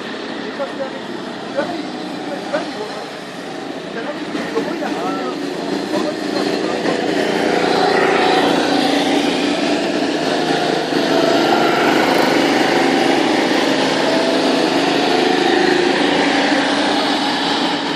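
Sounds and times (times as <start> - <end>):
go-kart engine running: 0.0 - 17.9.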